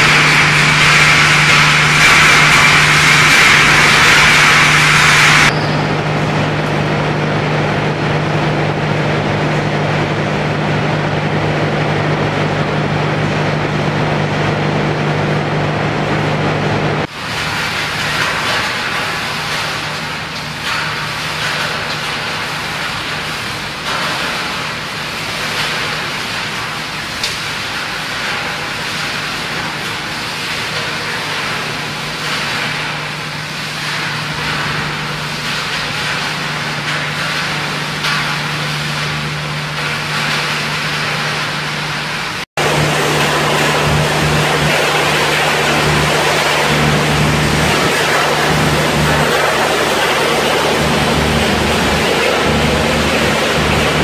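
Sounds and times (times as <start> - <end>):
hammer mill crusher running: 0.0 - 54.0
scrap shredding machinery running: 0.0 - 54.0.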